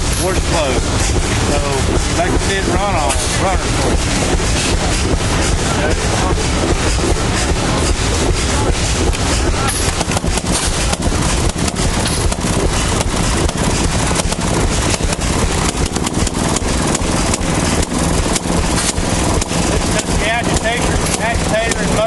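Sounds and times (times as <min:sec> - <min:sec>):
small gasoline engine popping: 0:00.0 - 0:22.0.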